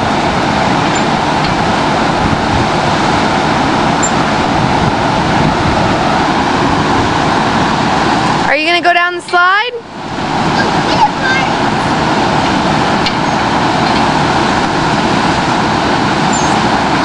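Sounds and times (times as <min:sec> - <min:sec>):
steady loud rushing noise: 0:00.0 - 0:17.0.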